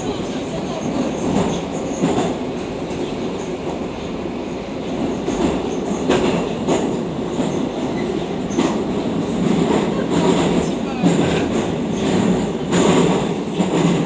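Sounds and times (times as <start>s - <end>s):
train rumbling through tunnel: 0.0s - 14.0s.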